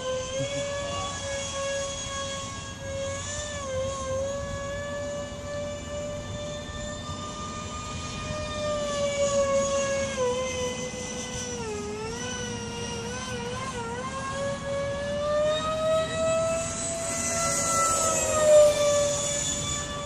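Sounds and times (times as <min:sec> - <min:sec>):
model jet fans whining: 0:00.0 - 0:20.0.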